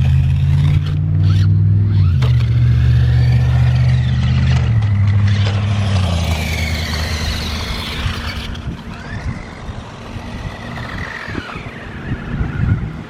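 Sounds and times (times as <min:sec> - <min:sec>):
low hum: 0:00.0 - 0:13.0
remote-control truck motor whining: 0:00.0 - 0:13.0.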